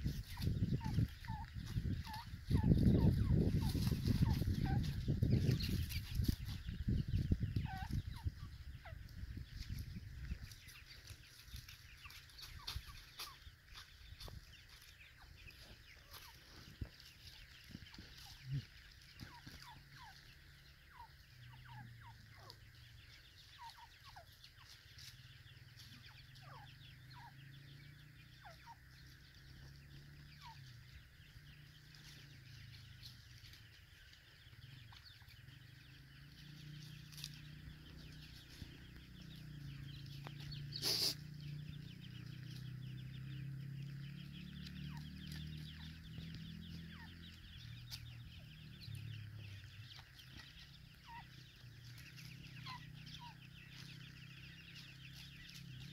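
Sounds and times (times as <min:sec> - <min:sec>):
birds giving soft downward calls: 0:00.0 - 0:55.9.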